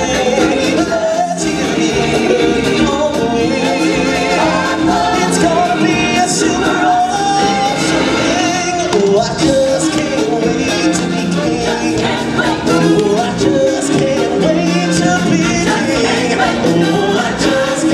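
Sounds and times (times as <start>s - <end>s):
amplified backing music: 0.0s - 17.9s.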